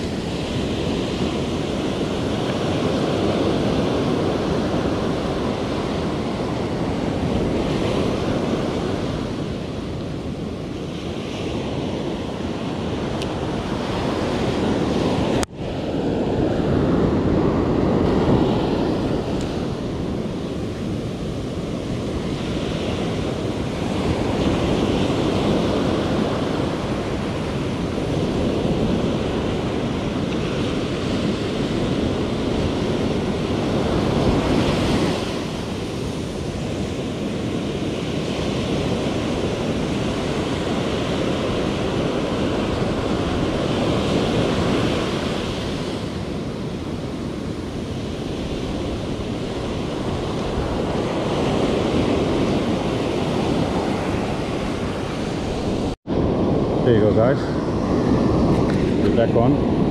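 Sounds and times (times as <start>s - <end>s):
ocean surf breaking on beach: 0.0s - 59.9s.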